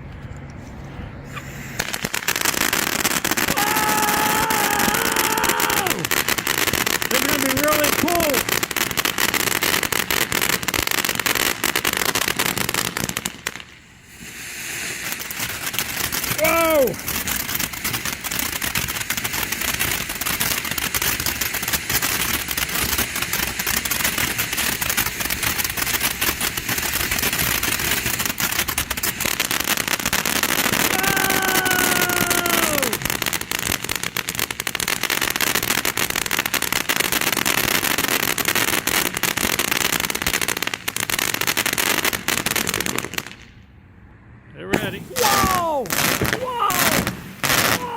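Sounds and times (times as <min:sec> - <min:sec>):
firework fountain hissing and crackling: 0:01.3 - 0:43.6, 0:44.7 - 0:47.9.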